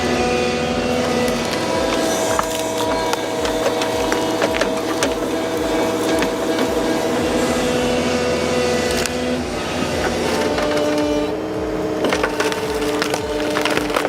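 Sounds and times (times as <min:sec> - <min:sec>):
heavy machine engine throbbing: 0:00.0 - 0:14.0
wood cracking and splintering: 0:00.8 - 0:14.0.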